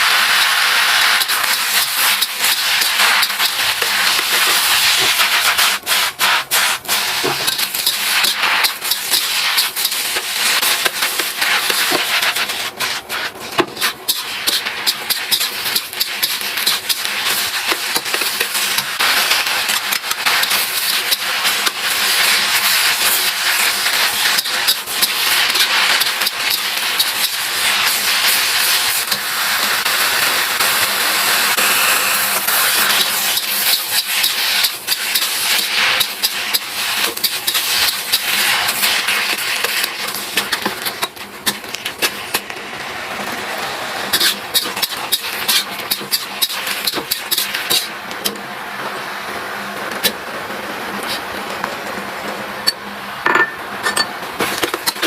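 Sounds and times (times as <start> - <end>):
food sizzling in hot oil: 0.0 - 42.8, 43.5 - 48.0.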